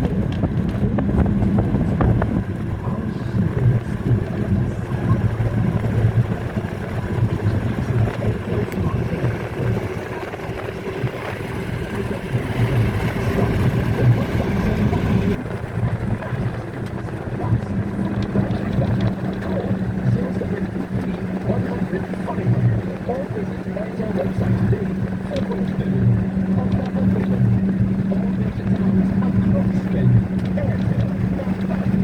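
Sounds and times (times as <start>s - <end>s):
minibus engine rumble: 0.0s - 32.0s
road noise: 0.0s - 32.0s
wind noise: 0.0s - 32.0s.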